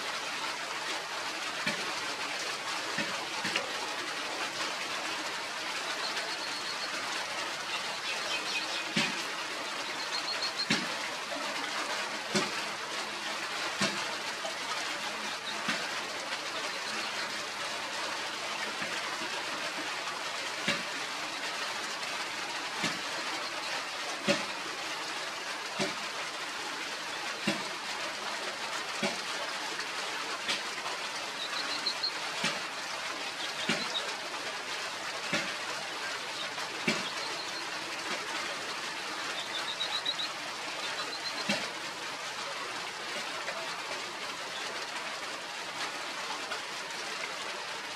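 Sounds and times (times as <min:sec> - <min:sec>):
rushing water-like noise: 0:00.0 - 0:47.9.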